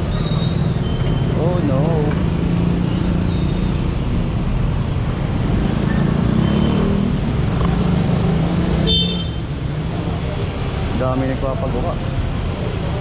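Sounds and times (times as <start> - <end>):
road and traffic noise: 0.0 - 13.0.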